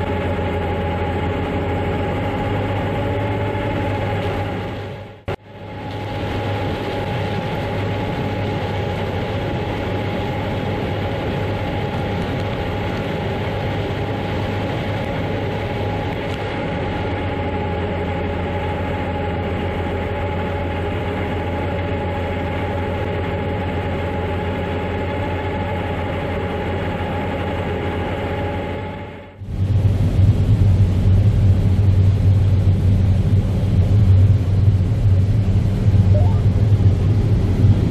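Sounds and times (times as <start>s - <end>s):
harvest machinery droning: 0.0s - 37.9s.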